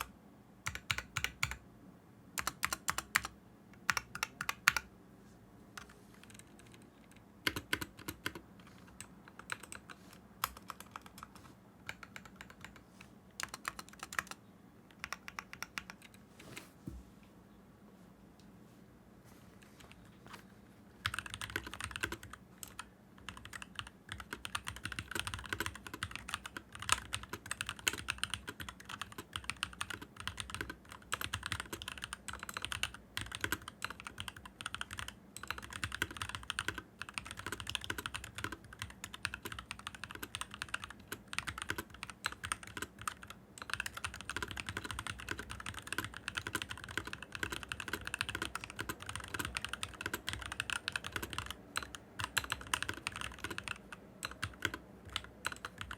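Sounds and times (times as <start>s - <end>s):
fast mechanical keyboard typing: 0.0s - 1.6s, 2.4s - 4.9s, 5.8s - 12.8s, 13.4s - 16.2s, 21.0s - 55.9s.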